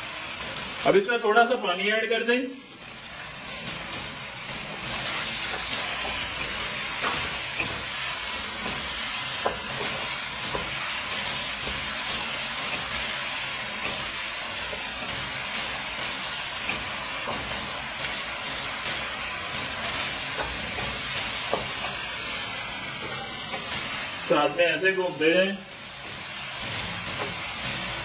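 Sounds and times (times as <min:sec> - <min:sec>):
food sizzling in a wok: 0:00.0 - 0:28.0.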